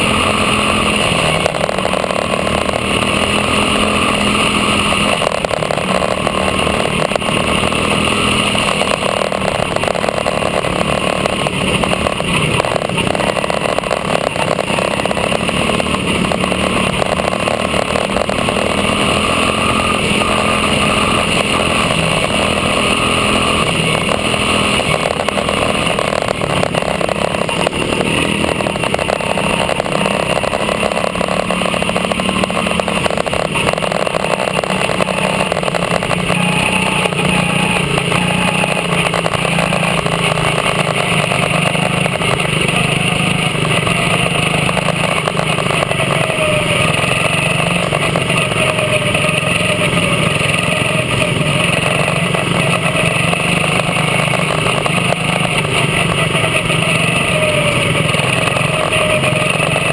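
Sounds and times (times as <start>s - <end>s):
small race car engine running: 0.0s - 59.9s.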